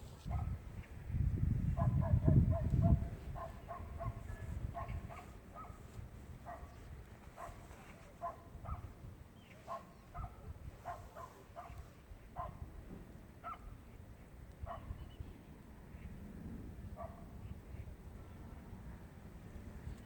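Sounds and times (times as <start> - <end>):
low wind rumble: 0.0 - 20.0.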